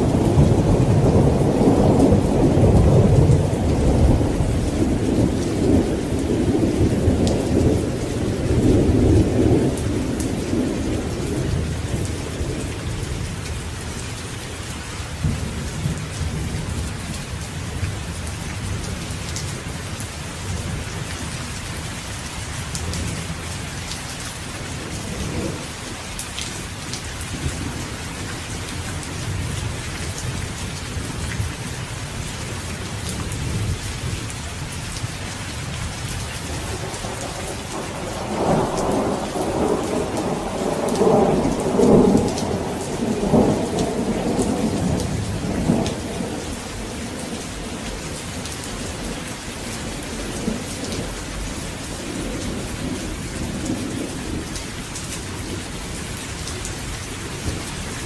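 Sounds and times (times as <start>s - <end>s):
thunder rumbling: 0.0s - 13.3s, 22.8s - 32.2s, 32.8s - 58.0s
steady rain falling: 0.0s - 58.0s.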